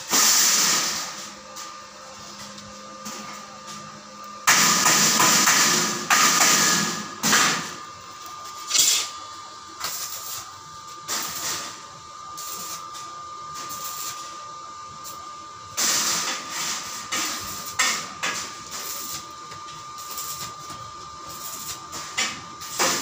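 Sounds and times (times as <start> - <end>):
welding arc crackling: 0.0 - 3.4, 4.4 - 23.0.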